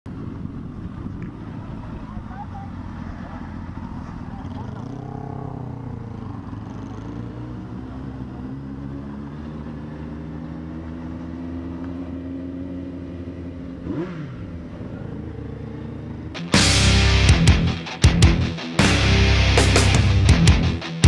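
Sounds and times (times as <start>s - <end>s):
motorcycle engine running: 0.1s - 21.0s
engine rev: 1.0s - 20.9s.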